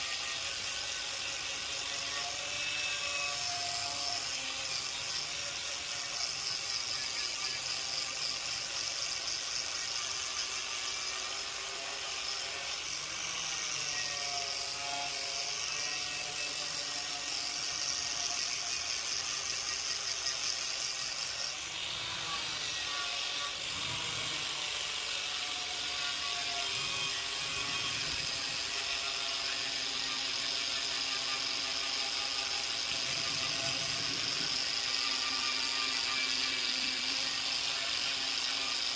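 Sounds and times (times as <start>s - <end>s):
power tool motor whirring: 0.0s - 38.9s.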